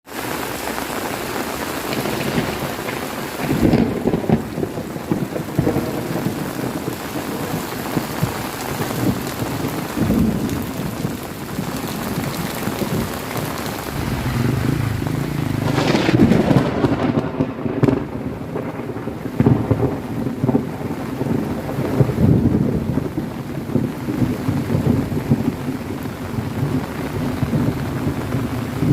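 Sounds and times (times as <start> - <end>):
heavy rain pouring: 0.0 - 28.9
strong wind: 1.4 - 28.9
thunder rumbling: 1.4 - 28.9.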